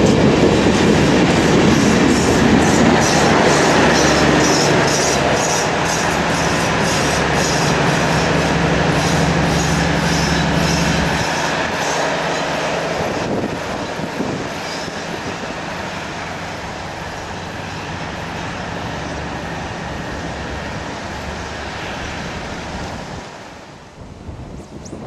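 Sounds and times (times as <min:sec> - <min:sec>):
locomotive engine drone: 0:00.0 - 0:24.9
train wheel and rail rumble: 0:00.0 - 0:25.0.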